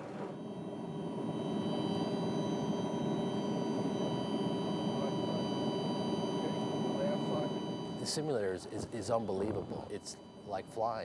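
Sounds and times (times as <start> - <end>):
flight simulator mechanical rush: 0.0 - 11.0
high whining tones: 0.0 - 11.0.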